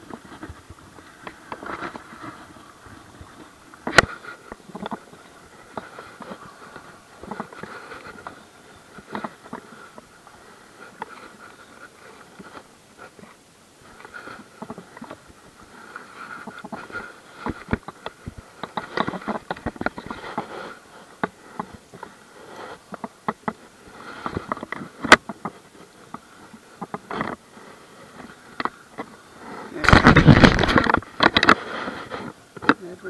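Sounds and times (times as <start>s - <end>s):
light rustling: 0.0s - 33.0s.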